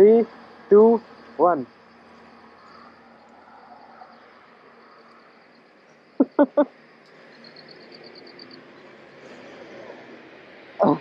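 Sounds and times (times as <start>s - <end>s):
faint insect chirring: 0.0s - 11.0s.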